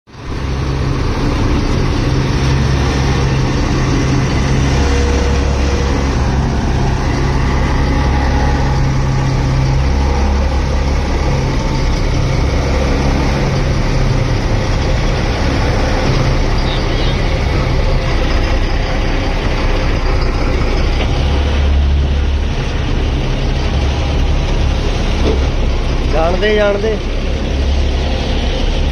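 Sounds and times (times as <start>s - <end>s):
diesel engine running: 0.1s - 28.9s.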